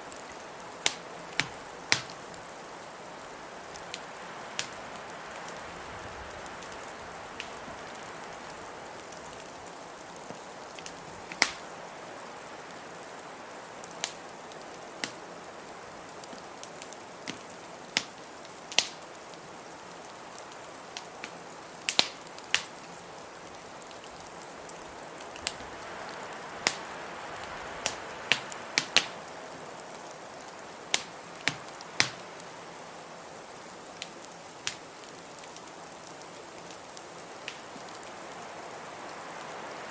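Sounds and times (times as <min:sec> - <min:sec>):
wood fire crackling and popping: 0:00.1 - 0:11.8, 0:12.4 - 0:39.9.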